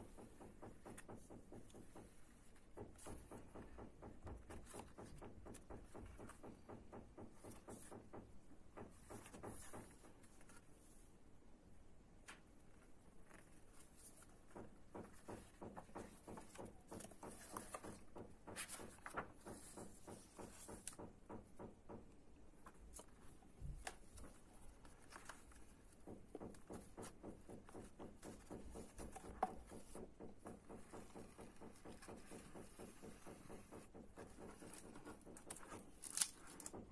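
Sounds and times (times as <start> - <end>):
book pages rustling and turning: 0.1 - 8.2, 8.8 - 11.1, 12.2 - 21.7, 22.6 - 36.9.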